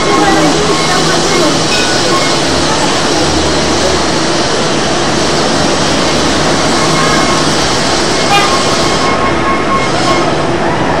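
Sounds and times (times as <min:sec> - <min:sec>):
high tones from tram: 0:00.0 - 0:11.0
street noise: 0:00.0 - 0:11.0
tram on rails: 0:00.0 - 0:11.0.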